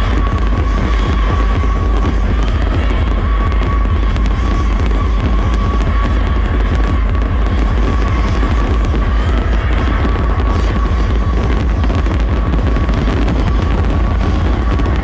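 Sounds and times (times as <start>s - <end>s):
electronic dance music: 0.0s - 15.0s
fireworks crackling and popping: 0.0s - 15.0s.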